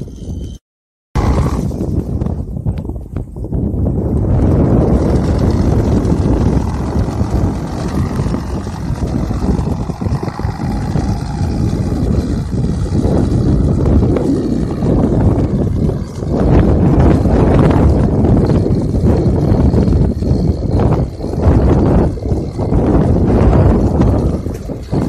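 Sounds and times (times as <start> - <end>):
tractor engine rumbling: 1.2 - 25.0.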